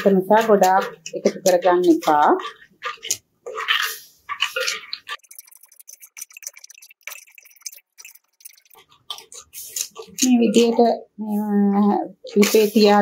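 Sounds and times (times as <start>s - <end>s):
spoon scraping clay pot: 0.0s - 13.0s.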